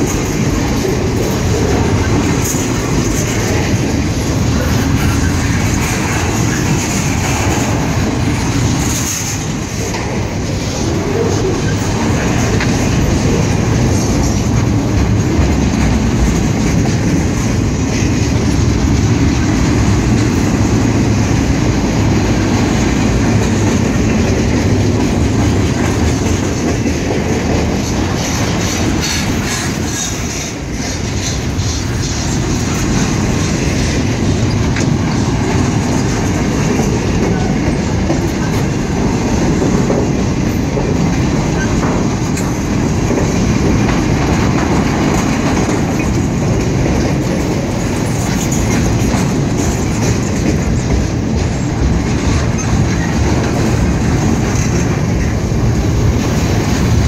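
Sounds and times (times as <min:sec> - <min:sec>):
freight train rolling past: 0:00.0 - 0:57.0
wheels clacking over rail joints: 0:00.0 - 0:57.0.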